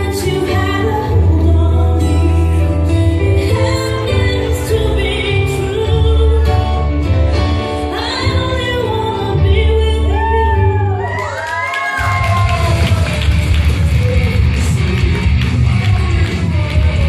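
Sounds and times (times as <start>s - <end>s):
person singing: 0.0s - 11.2s, 12.1s - 17.0s.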